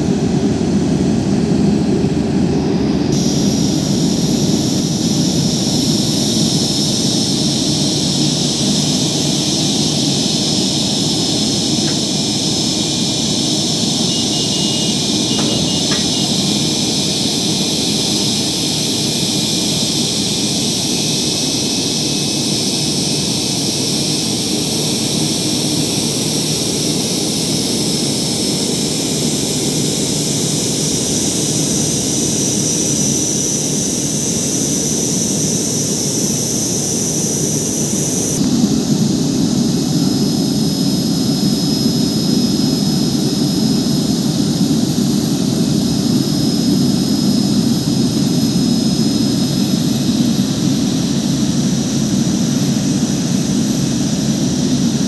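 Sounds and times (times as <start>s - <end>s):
jet engines whining and rumbling: 0.0s - 55.0s.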